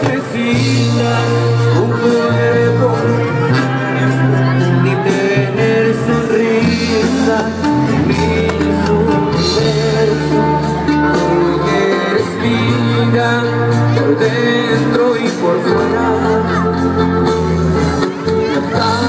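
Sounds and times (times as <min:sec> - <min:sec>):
guitars: 0:00.0 - 0:19.0
person singing: 0:00.0 - 0:19.0
tuba bass line: 0:00.0 - 0:19.0.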